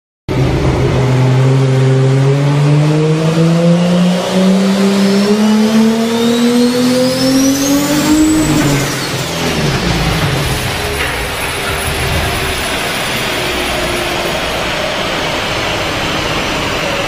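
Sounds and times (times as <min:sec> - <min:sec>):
car engine revving: 0:00.3 - 0:17.0.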